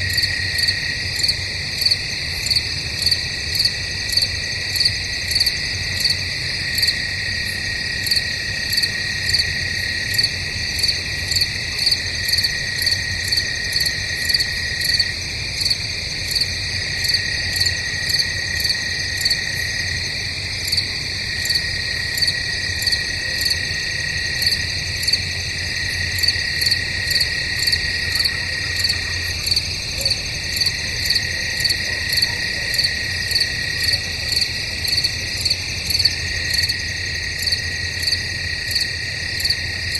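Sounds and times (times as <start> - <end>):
crickets trilling: 0.0 - 39.9
pulsing cricket chirp: 0.0 - 39.9.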